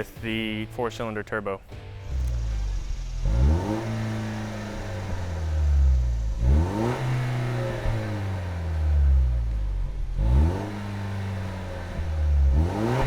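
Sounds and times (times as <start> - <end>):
car engine revving: 1.9 - 13.0.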